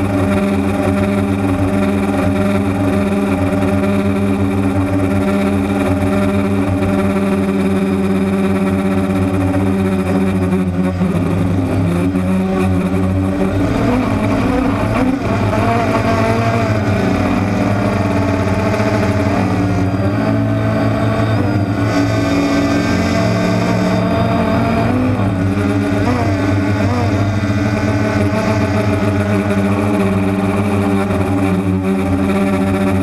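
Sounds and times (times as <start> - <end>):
drone motors and propellers whining: 0.0 - 33.0.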